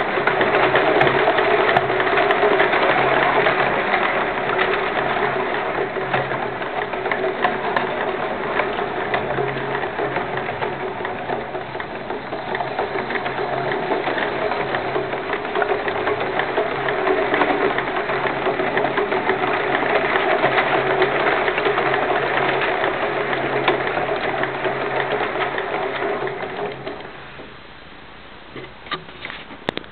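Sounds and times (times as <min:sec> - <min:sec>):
model locomotive rapid clatter: 0:00.0 - 0:27.6.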